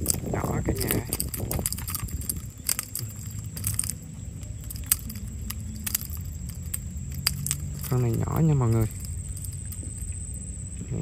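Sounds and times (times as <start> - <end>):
fishing tackle clicking: 0.0 - 10.5
low steady rumble: 0.0 - 11.0.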